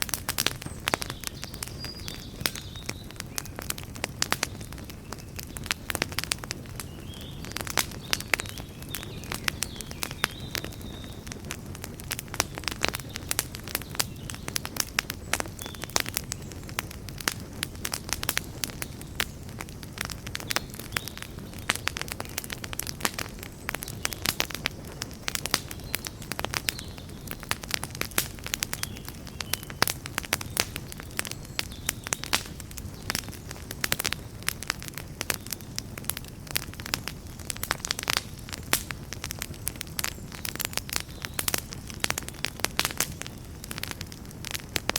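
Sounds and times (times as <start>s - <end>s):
campfire crackling and popping: 0.0s - 44.9s
low rush of flame: 0.0s - 44.9s.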